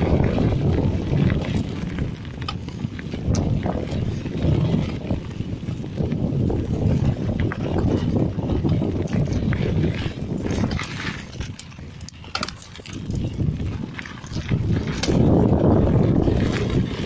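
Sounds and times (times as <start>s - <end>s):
bike rattling over bumps: 0.0s - 17.0s
bike tyres rumbling on dirt: 0.0s - 17.0s
wind buffeting microphone: 0.0s - 17.0s.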